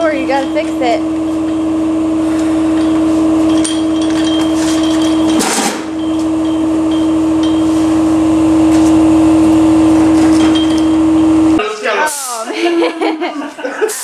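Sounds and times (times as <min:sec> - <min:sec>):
electric air blower whining: 0:00.0 - 0:13.0.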